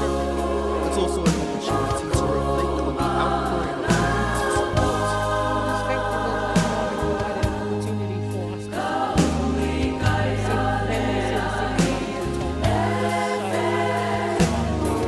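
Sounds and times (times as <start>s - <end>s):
choir singing in harmony: 0.0s - 15.0s
sustained bass notes: 0.0s - 15.0s.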